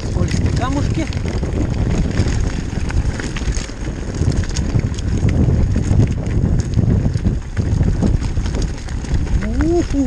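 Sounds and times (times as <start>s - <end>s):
mountain bike clattering over stones: 0.0s - 10.0s
wind buffeting microphone: 0.0s - 10.0s.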